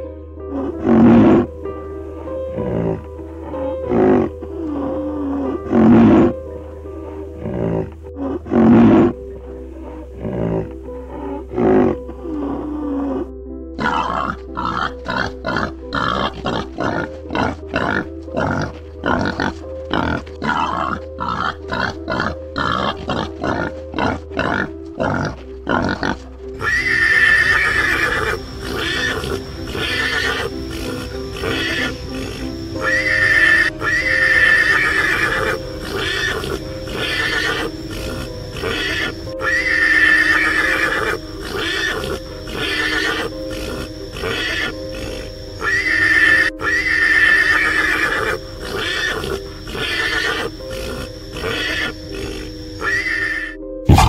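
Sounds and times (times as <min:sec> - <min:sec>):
background music: 0:00.0 - 0:54.0
animal calls: 0:00.5 - 0:01.5, 0:02.1 - 0:06.4, 0:07.0 - 0:54.0.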